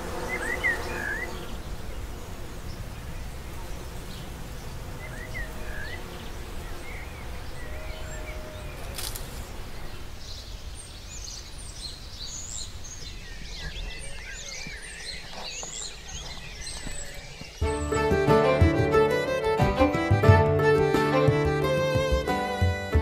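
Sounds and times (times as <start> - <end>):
birds chirping: 0.0 - 19.4.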